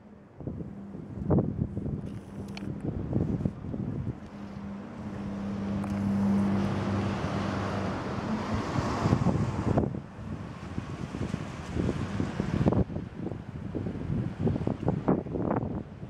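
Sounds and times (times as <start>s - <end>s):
propeller aeroplane droning: 0.0s - 16.0s
wind buffeting microphone: 0.0s - 16.0s.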